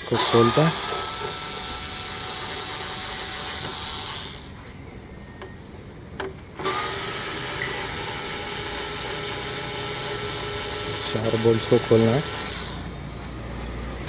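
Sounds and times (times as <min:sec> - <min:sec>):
power tool running: 0:00.0 - 0:04.7, 0:06.6 - 0:13.2.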